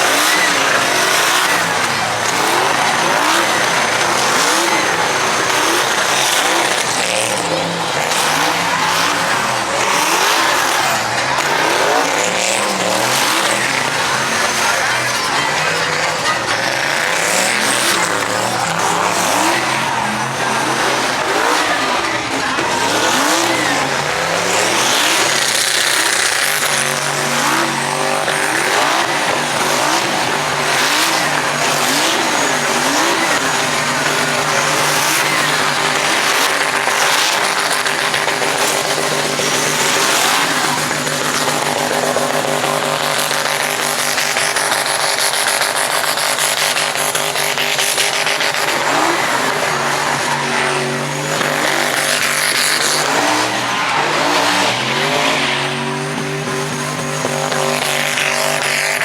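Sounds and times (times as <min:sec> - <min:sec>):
tires squealing: 0:00.0 - 0:59.0
truck engines revving: 0:00.0 - 0:59.0.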